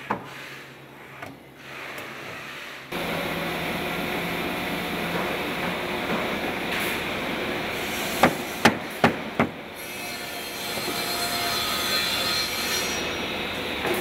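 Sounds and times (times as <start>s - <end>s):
workshop noise hiss: 0.0s - 14.0s.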